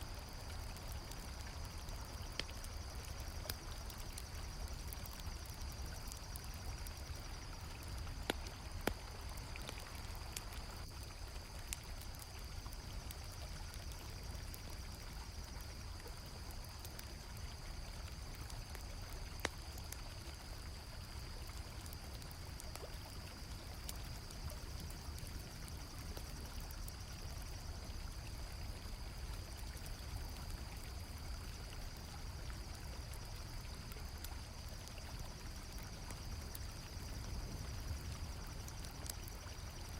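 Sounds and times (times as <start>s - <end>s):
campfire crackles: 0.0s - 39.9s
crickets chirping: 0.0s - 39.9s.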